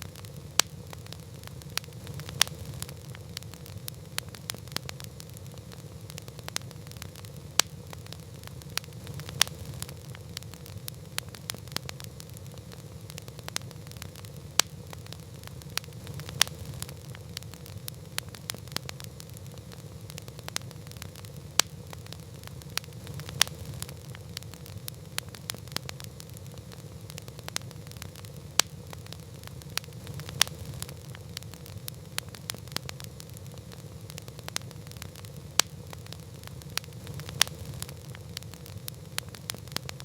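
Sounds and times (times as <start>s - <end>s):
campfire crackling: 0.0s - 40.0s
faint steady hum: 0.0s - 40.0s
low rumble of burning fire: 0.0s - 40.0s.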